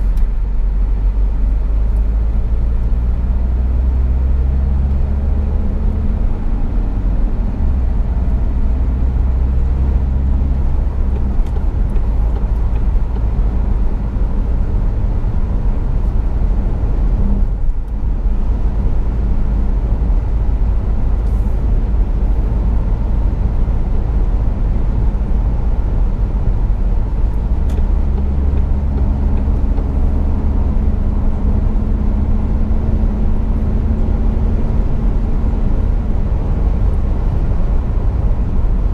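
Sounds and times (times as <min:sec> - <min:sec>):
car engine drone in cabin: 0:00.0 - 0:38.9
road noise: 0:00.0 - 0:38.9.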